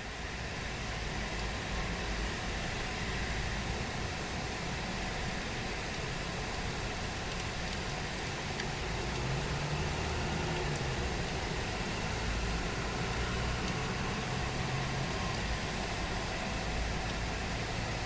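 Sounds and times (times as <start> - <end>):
steady rain falling: 0.0 - 18.0
vehicle engine hum: 0.0 - 18.0.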